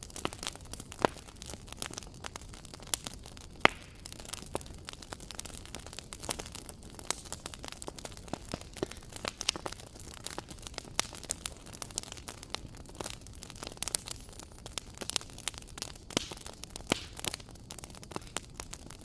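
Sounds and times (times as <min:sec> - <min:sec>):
fire popping and snapping: 0:00.0 - 0:19.0
low rumble of flames: 0:00.0 - 0:19.0
wood fire crackling: 0:00.0 - 0:19.0.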